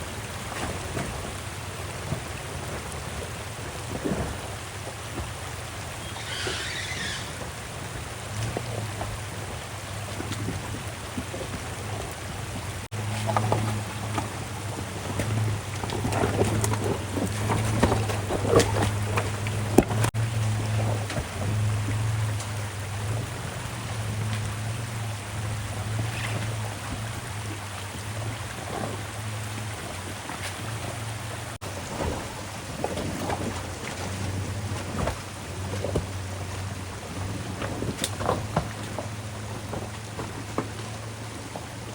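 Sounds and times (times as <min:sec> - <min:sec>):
truck engine drone: 0:00.0 - 0:41.9
tyres crunching on trail: 0:00.0 - 0:41.9.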